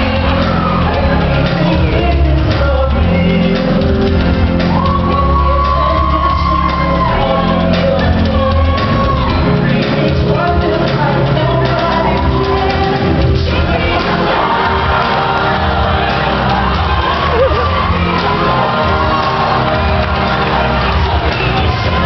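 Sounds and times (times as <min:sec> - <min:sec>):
song with heavy bass beat: 0:00.0 - 0:22.0.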